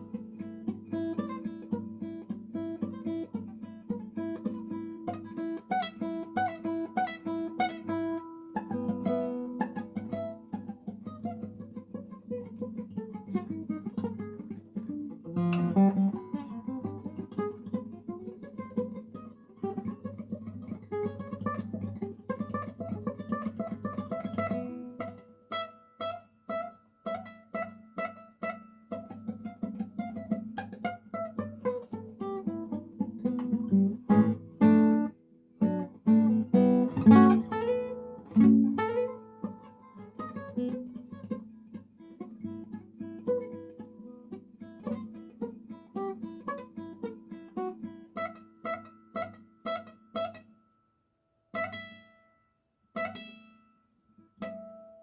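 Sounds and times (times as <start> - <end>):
fingerpicked classical guitar: 0.0 - 50.9, 51.5 - 55.0.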